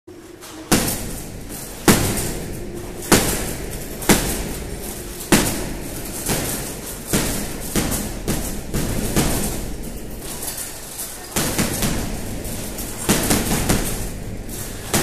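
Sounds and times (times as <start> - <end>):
punches thudding on punching bag: 0.4 - 15.0.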